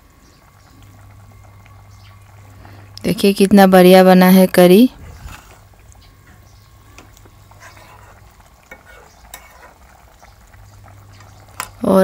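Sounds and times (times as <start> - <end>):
bubbling gravy hissing: 0.0 - 4.2, 4.9 - 12.0.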